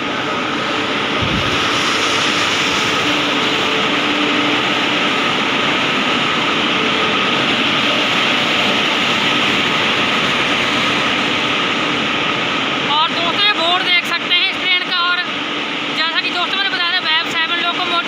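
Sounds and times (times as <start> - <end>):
train ventilation blowers whirring: 0.0 - 18.0.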